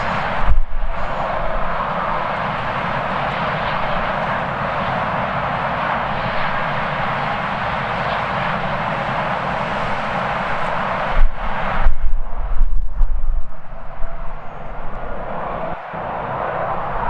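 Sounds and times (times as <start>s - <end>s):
jet engines roaring: 0.0s - 17.0s
wind rumbling on microphone: 0.0s - 17.0s.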